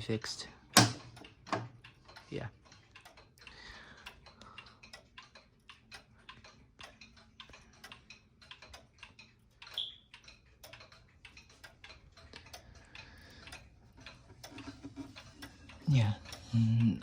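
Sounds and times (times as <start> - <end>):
grandfather clock ticking: 0.0 - 17.0.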